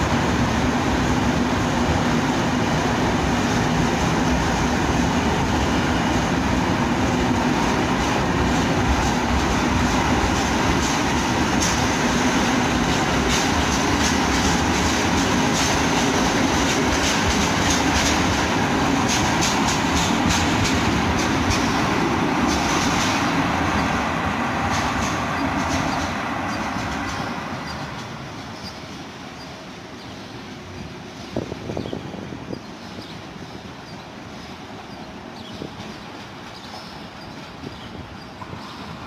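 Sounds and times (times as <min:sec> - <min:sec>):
train coaches rumbling by: 0:00.0 - 0:39.0.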